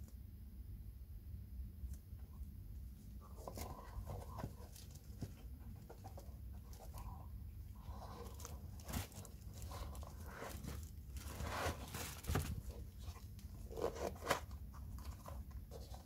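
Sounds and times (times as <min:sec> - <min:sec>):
low steady hum: 0:00.0 - 0:16.0
rustling and scraping of insole: 0:03.0 - 0:16.0.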